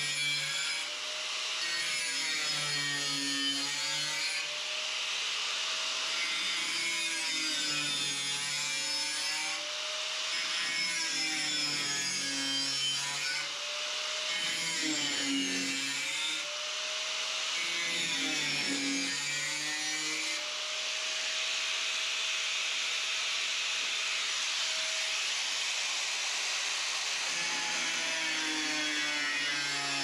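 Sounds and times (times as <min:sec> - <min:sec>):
power tool cutting sheet steel: 0:00.0 - 0:30.0.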